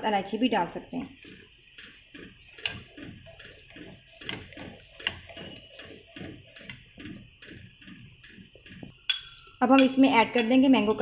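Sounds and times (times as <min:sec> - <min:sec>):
spatula scraping pan: 0:01.0 - 0:11.0.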